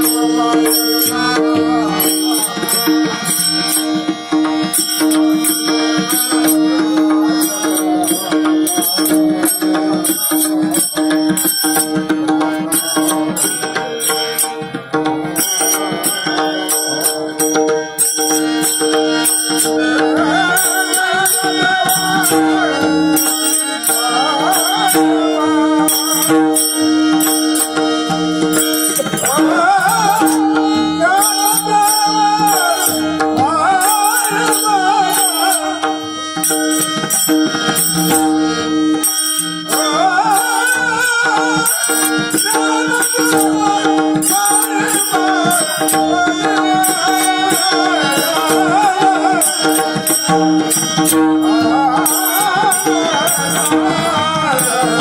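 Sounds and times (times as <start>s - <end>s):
old man singing: 0.0s - 55.0s
percussion beat: 0.0s - 55.0s.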